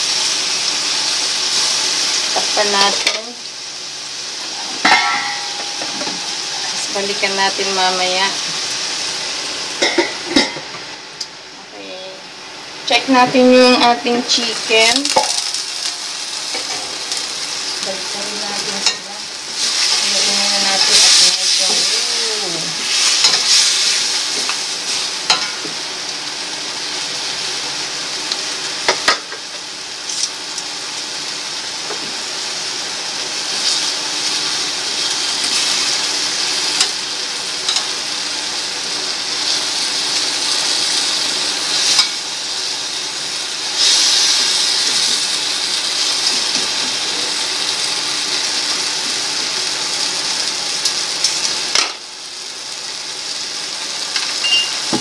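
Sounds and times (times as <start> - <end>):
chicken sizzling in pan: 0.0 - 55.0.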